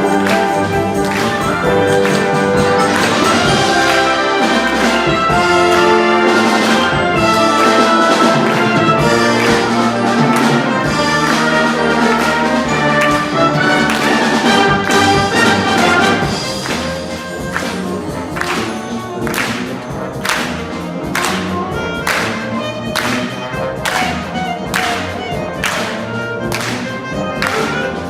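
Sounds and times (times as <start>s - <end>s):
wind band playing: 0.0s - 28.0s.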